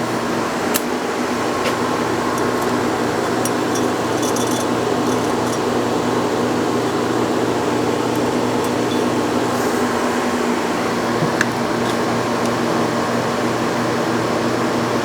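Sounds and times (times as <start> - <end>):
electric motor humming: 1.3 - 13.7.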